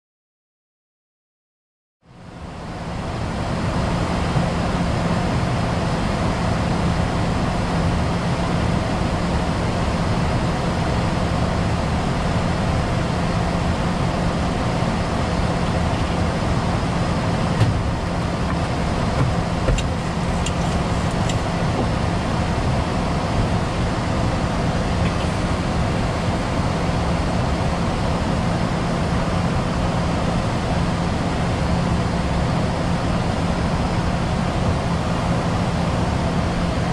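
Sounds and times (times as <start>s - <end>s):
air and engine rush: 2.0s - 36.9s
constant low hum: 2.1s - 36.9s.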